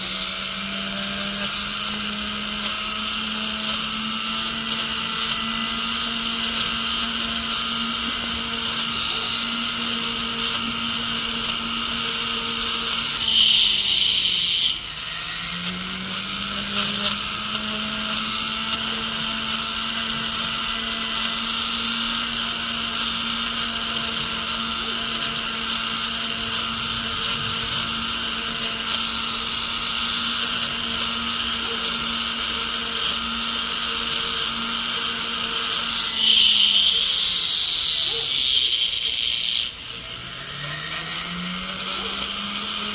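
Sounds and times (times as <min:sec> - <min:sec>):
high whine of wheel on metal: 0:00.0 - 0:42.9
rotary tool polishing metal: 0:00.0 - 0:42.9.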